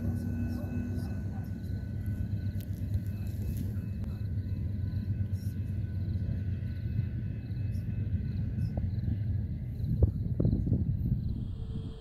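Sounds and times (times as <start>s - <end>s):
distant train rumble: 0.0s - 12.0s
faint crickets chirping: 0.0s - 12.0s.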